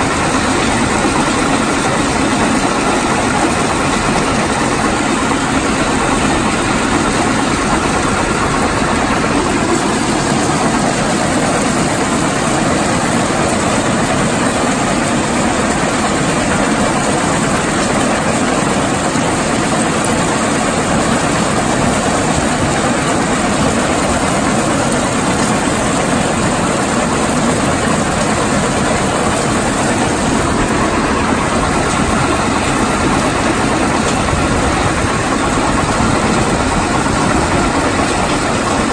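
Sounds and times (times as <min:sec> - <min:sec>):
conveyors running: 0:00.0 - 0:38.9
rock crusher running: 0:00.0 - 0:38.9.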